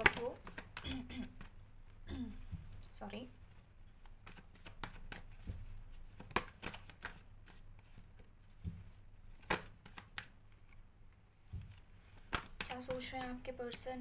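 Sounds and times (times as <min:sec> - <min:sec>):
cards being shuffled: 0:00.0 - 0:01.6, 0:03.5 - 0:13.8.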